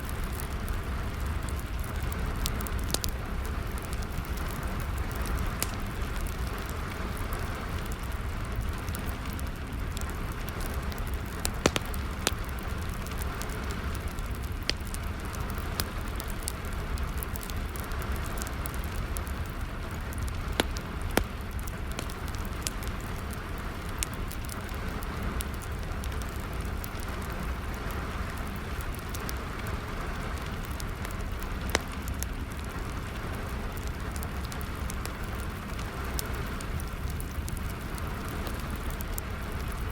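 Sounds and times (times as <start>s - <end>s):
sharp fire pops: 0.0s - 39.9s
steady rain: 0.0s - 39.9s
wood fire crackling: 0.0s - 39.9s.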